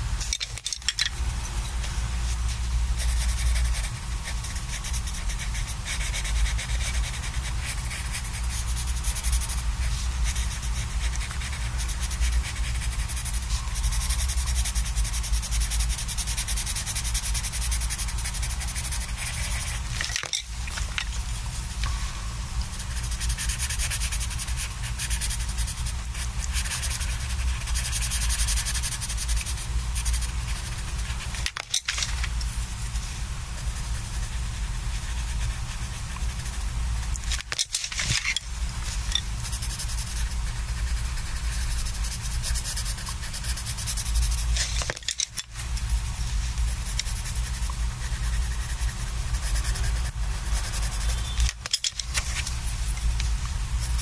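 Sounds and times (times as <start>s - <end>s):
low steady hum: 0.0s - 54.0s
pencil scratching on paper: 1.5s - 21.0s, 22.7s - 53.1s, 53.8s - 54.0s.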